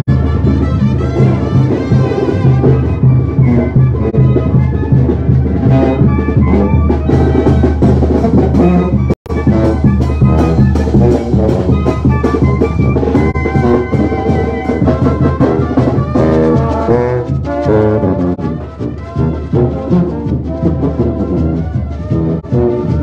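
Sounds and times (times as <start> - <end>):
marching brass band: 0.0 - 23.0.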